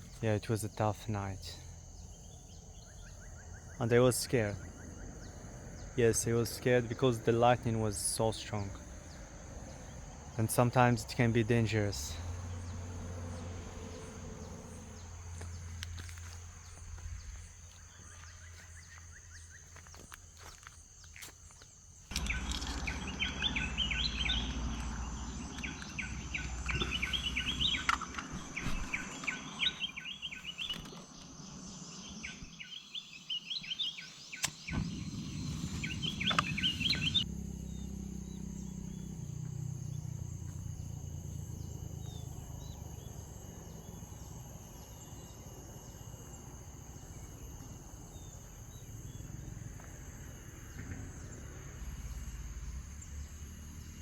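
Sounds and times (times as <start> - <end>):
birds chirping: 0.0 - 54.0
insects droning: 0.0 - 54.0.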